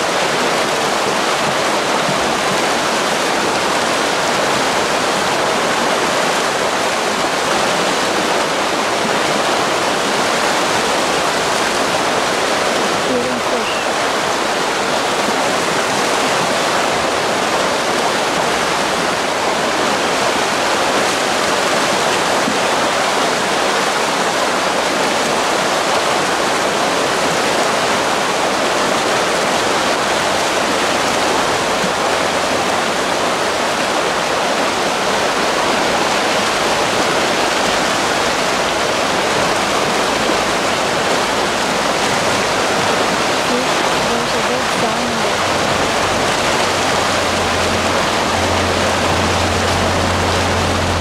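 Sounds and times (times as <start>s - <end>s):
river water rushing over stones: 0.0s - 51.0s.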